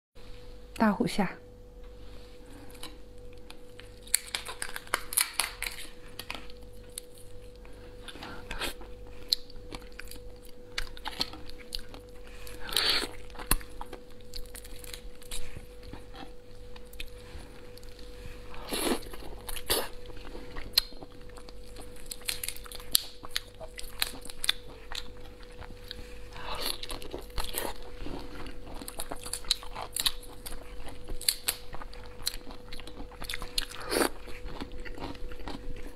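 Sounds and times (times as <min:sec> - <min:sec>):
faint steady hum: 0:00.2 - 0:35.9.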